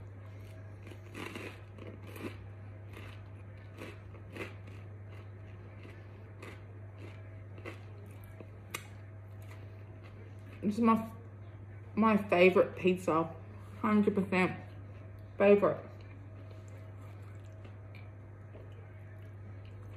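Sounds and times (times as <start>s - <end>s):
chewing and crunching: 0.0s - 10.8s, 14.7s - 19.9s
steady low hum: 0.0s - 19.9s.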